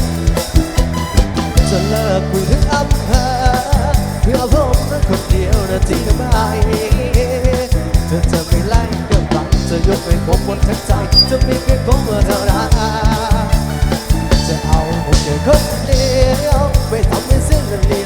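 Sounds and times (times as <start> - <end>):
bass: 0.0 - 18.0
drum kit beat: 0.0 - 18.0.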